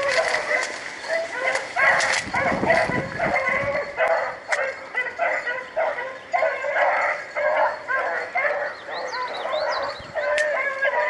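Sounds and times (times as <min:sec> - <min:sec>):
dogs baying: 0:00.0 - 0:11.0.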